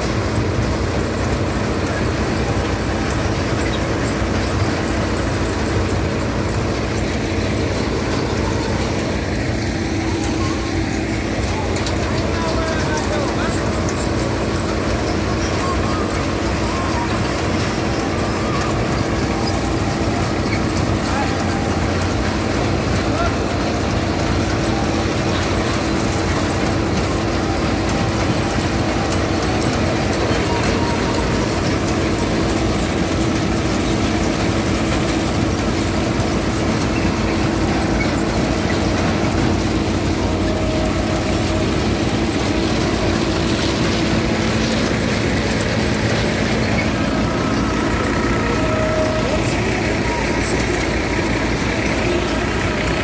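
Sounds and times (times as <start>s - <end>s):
thresher mechanical drone: 0.0s - 53.0s.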